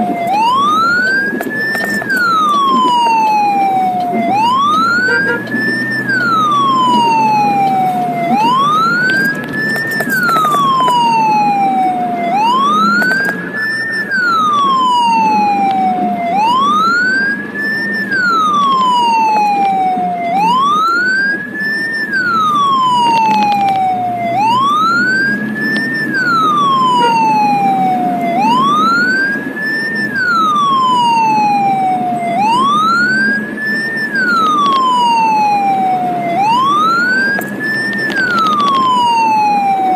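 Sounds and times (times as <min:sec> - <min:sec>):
ambulance siren wailing: 0:00.0 - 0:39.9
engine and road rumble: 0:00.0 - 0:39.9.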